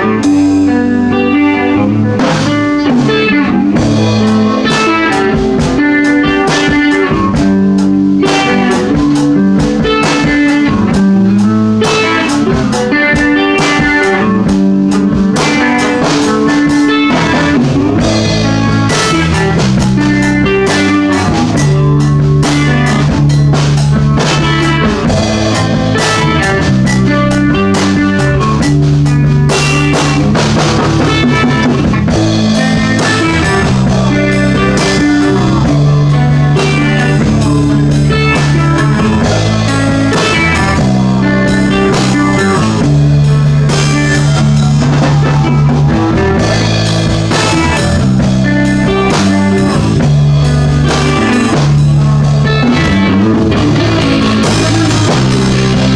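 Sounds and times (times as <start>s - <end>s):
rock band playing: 0.0s - 55.9s.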